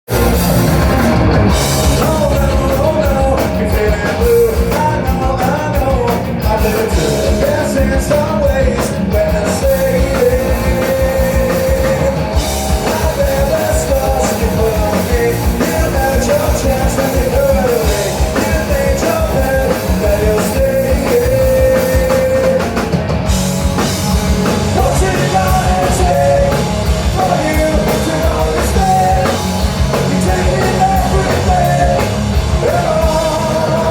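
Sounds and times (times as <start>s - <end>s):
drum kit: 0.0s - 33.9s
electric guitar: 0.1s - 33.9s
person singing: 1.8s - 22.9s, 24.6s - 33.9s.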